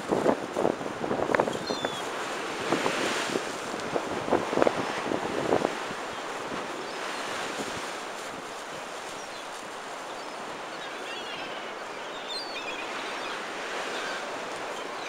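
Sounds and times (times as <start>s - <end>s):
sea surf breaking: 0.0s - 15.0s.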